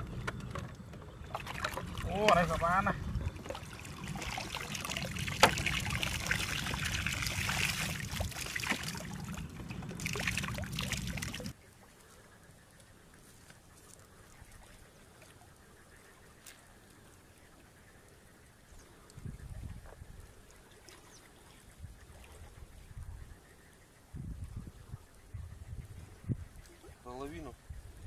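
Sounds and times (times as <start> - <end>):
water splashing and trickling: 0.0 - 28.0.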